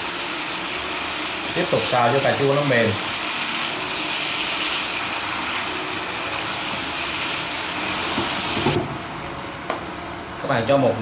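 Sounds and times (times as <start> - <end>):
vegetables sizzling in frying pan: 0.0 - 10.0.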